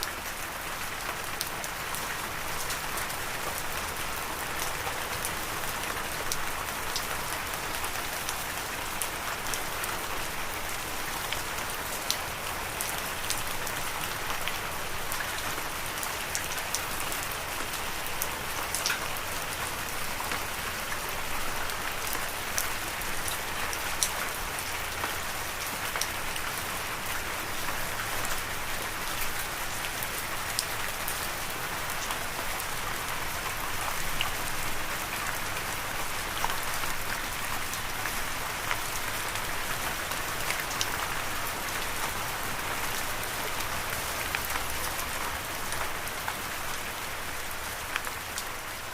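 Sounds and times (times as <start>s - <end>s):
raindrops ticking on a surface: 0.0s - 48.9s
steady rain hiss: 0.0s - 48.9s.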